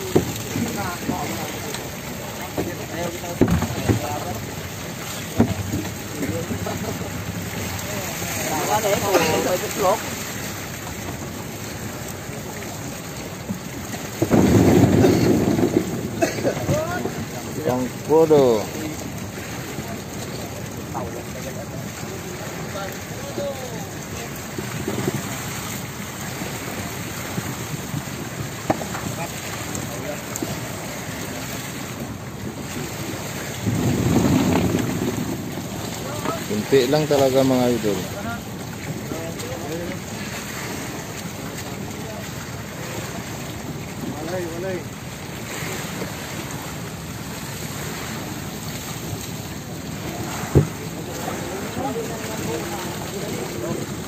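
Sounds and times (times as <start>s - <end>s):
fish thrashing and splashing water: 0.0s - 54.0s.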